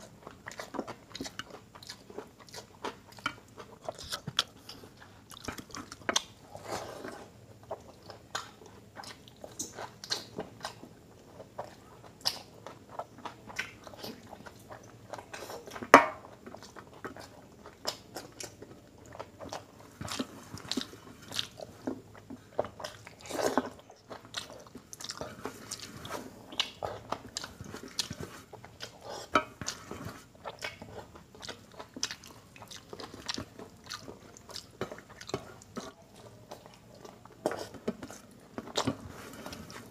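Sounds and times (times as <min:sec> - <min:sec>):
man chewing food: 0:00.0 - 0:39.9.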